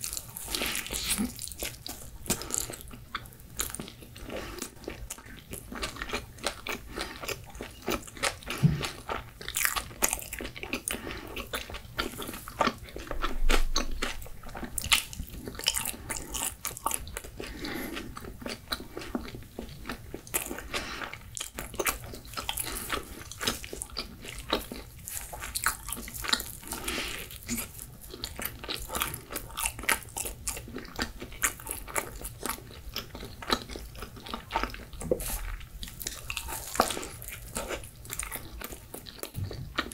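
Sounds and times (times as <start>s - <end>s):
person chewing crunchy crust: 0.0s - 39.9s.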